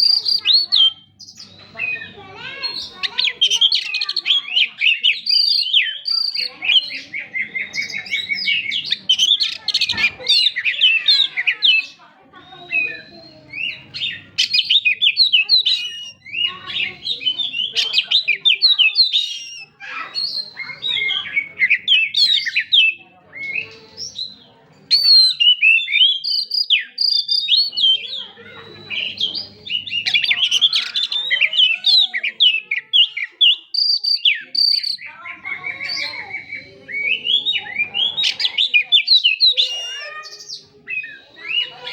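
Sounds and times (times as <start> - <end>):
bird singing chirps and trills: 0.0 - 41.9.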